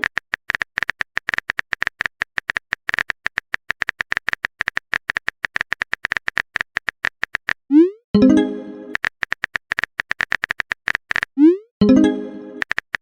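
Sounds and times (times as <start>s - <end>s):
phone keyboard typing clicks: 0.0s - 7.6s, 8.9s - 13.0s.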